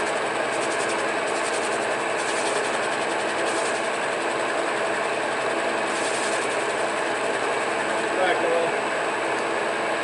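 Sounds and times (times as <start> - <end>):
metal lathe running with gear whine: 0.0 - 10.0.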